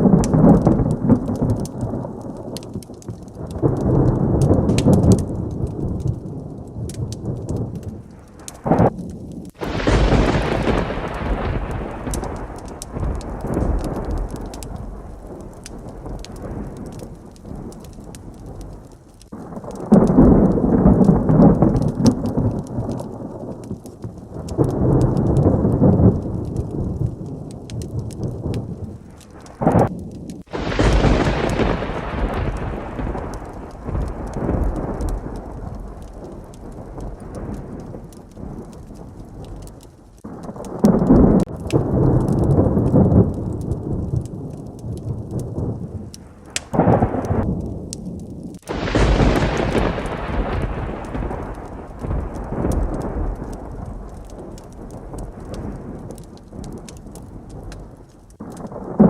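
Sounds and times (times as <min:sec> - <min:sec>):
heavy rain: 0:00.0 - 0:59.0
rolling thunder rumbles: 0:00.0 - 0:59.0
sharp close thunderclap: 0:00.0 - 0:59.0.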